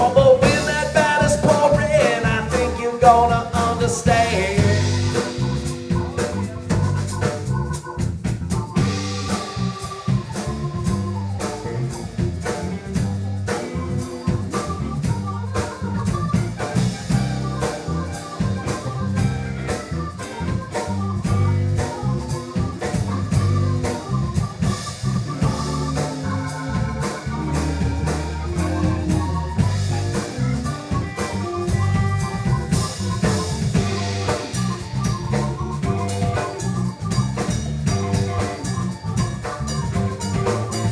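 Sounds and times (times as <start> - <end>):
drum kit: 0.0 - 40.9
electric bass: 0.0 - 40.9
keyboard organ sound: 0.0 - 40.9.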